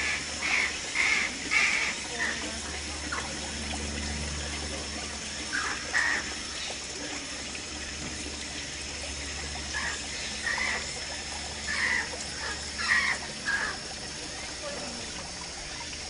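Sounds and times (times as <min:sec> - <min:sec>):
trickling water: 0:00.0 - 0:16.0.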